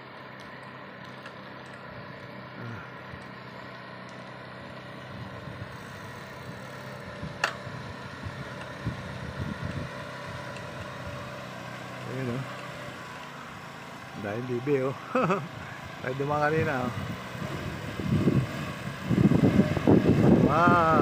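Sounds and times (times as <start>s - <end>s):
motor scooter engine running: 0.0s - 21.0s.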